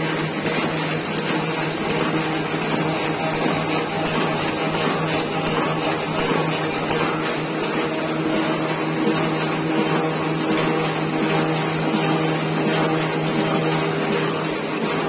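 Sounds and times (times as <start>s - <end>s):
printing press running: 0.0s - 15.0s.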